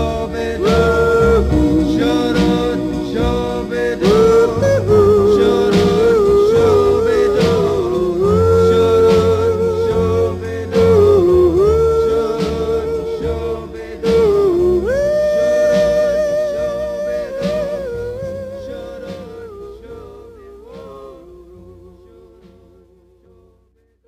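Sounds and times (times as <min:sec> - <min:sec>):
background song: 0:00.0 - 0:24.0.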